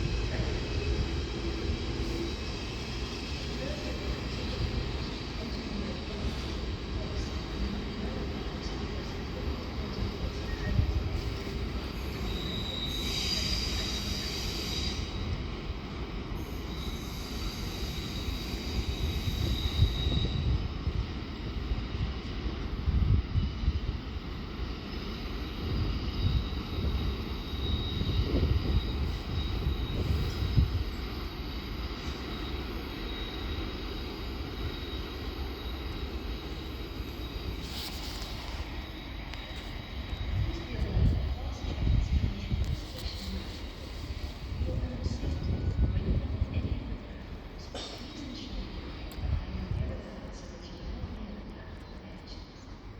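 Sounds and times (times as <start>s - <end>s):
train wheels squealing: 0.0s - 46.4s
train rumbling on rails: 0.0s - 52.9s.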